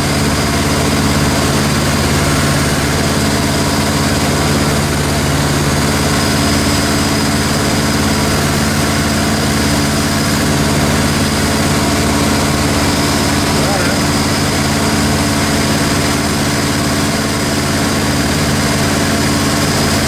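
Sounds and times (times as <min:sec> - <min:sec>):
aircraft piston engine and propeller: 0:00.0 - 0:20.0.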